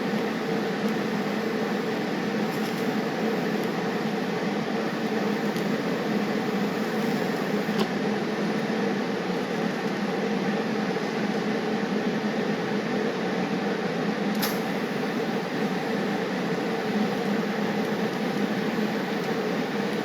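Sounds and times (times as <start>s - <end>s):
shop machinery whirring: 0.0s - 13.4s, 14.3s - 20.0s.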